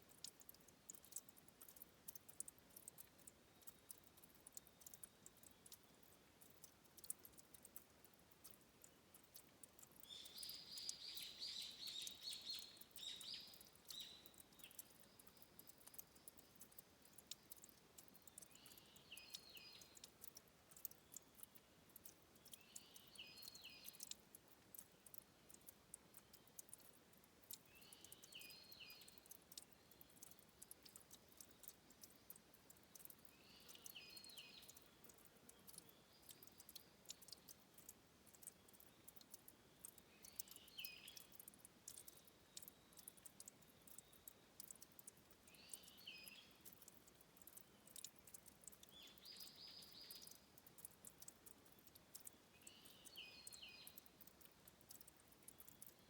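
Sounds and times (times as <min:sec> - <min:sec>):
water dripping and trickling: 0:00.0 - 0:56.0.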